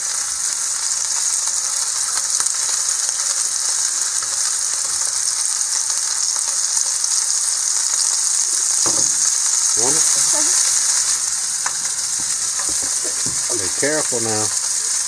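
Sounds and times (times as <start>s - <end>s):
sausages sizzling in a pan: 0.0s - 15.0s.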